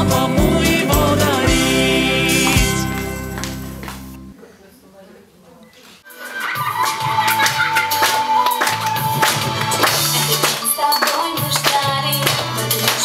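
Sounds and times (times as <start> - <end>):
upbeat music with bass line: 0.0 - 4.3, 6.1 - 13.0.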